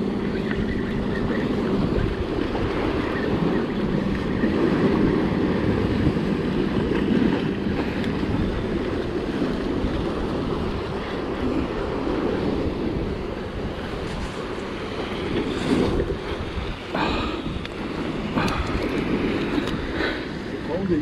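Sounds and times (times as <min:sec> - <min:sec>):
surf washing against rocks: 0:00.0 - 0:21.0
wind buffeting microphone: 0:00.0 - 0:21.0.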